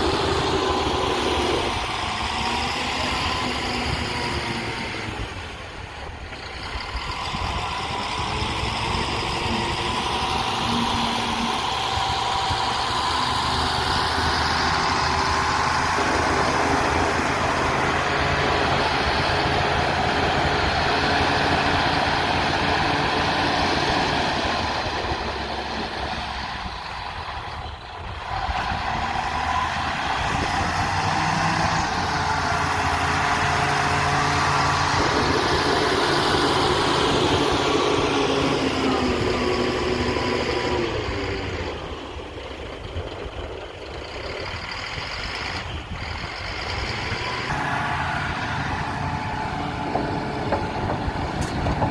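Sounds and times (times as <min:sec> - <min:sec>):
diesel engine of earthmoving machine: 0:00.0 - 0:51.9.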